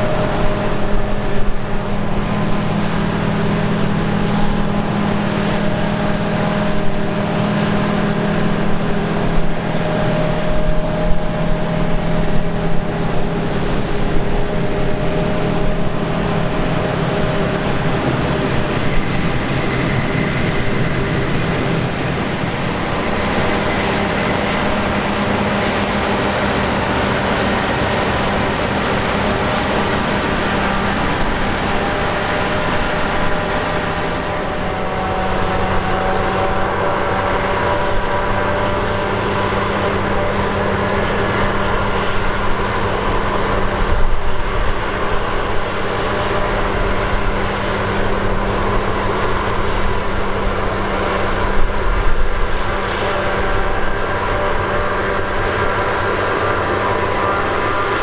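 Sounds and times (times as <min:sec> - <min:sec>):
low diesel engine note: 0:00.0 - 0:58.0
machinery whining tones: 0:00.0 - 0:58.0.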